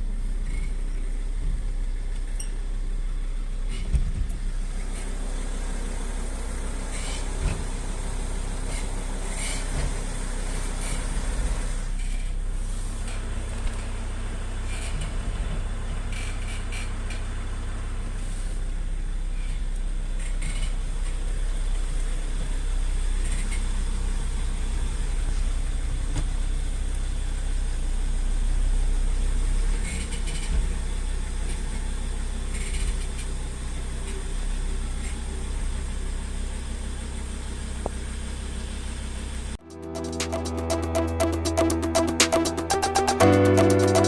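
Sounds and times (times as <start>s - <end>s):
car engine low rumble: 0.0s - 39.6s.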